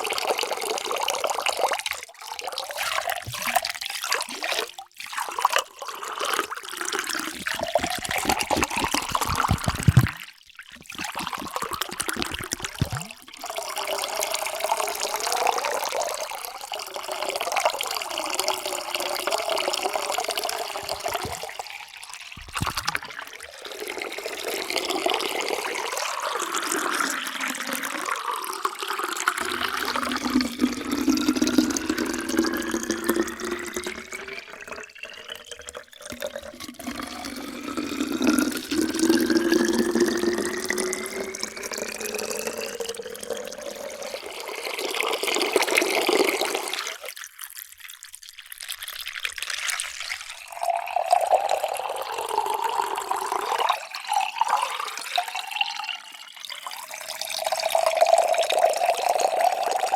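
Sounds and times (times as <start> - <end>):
water pouring into a glass: 0.0 - 59.9.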